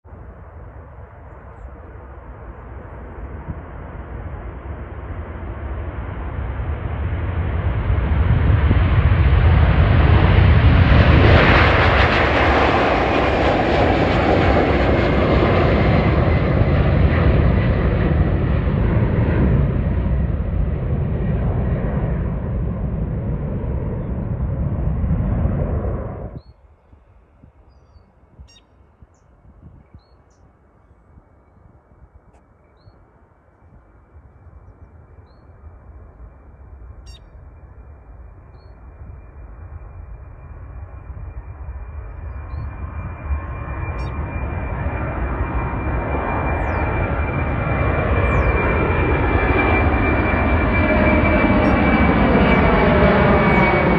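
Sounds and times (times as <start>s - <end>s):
jet aircraft passing: 0.1s - 53.9s
jet engine whine: 0.1s - 53.9s.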